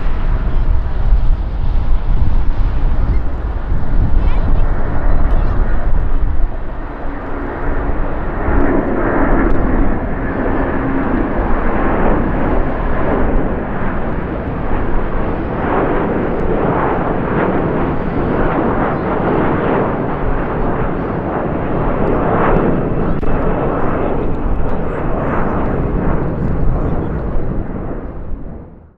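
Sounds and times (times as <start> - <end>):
jet engines steady roar: 0.0 - 28.9.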